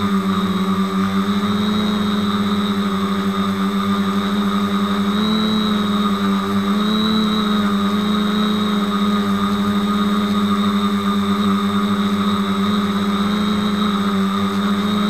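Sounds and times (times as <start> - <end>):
quadcopter propellers humming: 0.0 - 15.0.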